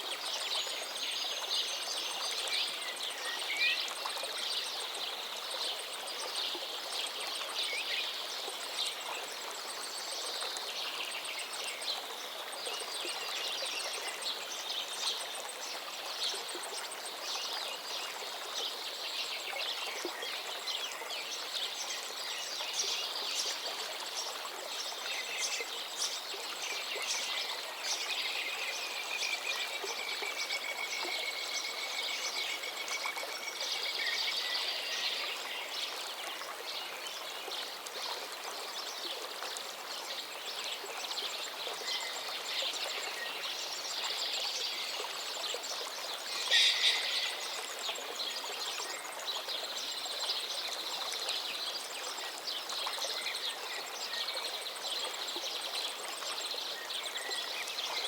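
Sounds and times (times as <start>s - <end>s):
flowing stream: 0.0s - 58.0s
songbirds singing: 8.8s - 37.8s, 38.6s - 58.0s.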